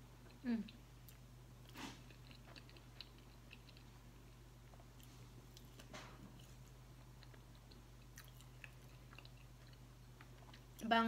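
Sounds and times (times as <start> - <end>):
low steady hum: 0.0 - 11.0
chewing pastry: 0.2 - 10.8.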